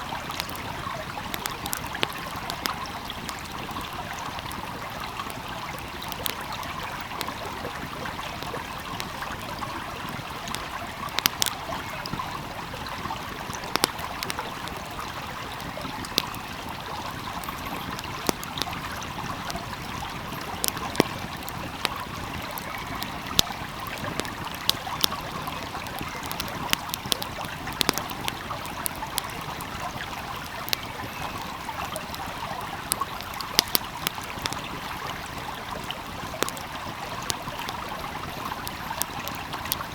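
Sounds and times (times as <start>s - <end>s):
fire crackling: 0.0s - 39.9s
stream flowing: 0.0s - 39.9s.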